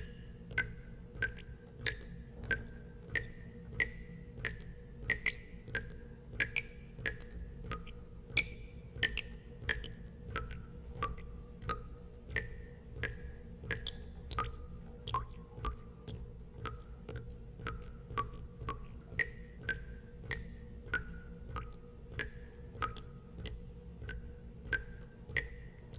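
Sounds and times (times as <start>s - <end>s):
water drops plinking into water: 0.0s - 25.9s.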